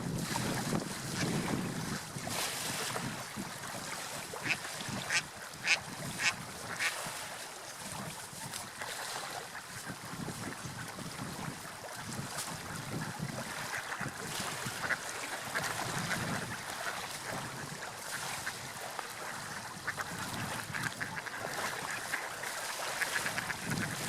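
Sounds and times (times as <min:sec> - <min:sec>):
sea waves washing: 0:00.0 - 0:24.0.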